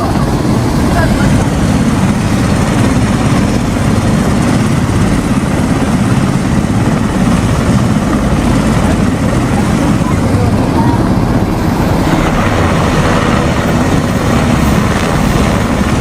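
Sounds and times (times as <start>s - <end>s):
helicopter rotor chopping: 0.0s - 16.0s.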